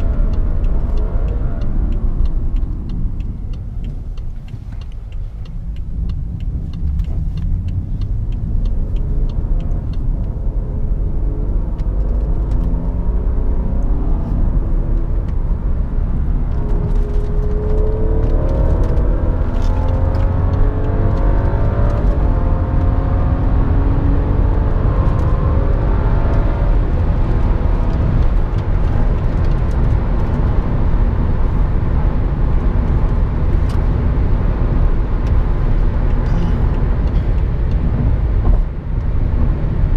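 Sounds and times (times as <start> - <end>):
car engine accelerating: 0.0 - 39.9
road and tyre rumble: 0.0 - 39.9.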